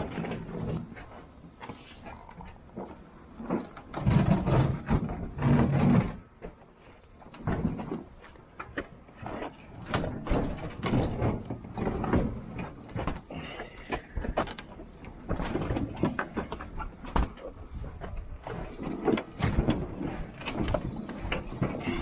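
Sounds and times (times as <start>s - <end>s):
heavy items knocking and rattling: 0.0s - 6.8s, 7.4s - 22.0s.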